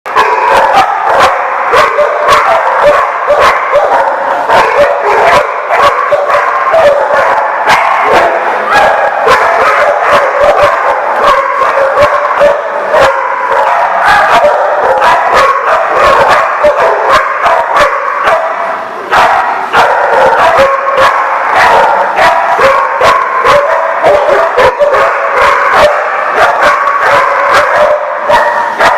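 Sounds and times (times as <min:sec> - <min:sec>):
dogs barking and yipping: 0:00.1 - 0:28.9.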